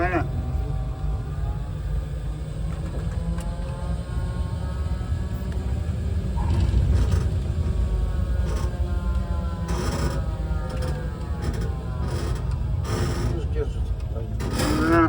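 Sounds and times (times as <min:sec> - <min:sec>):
crane machinery whine: 0:00.0 - 0:15.0.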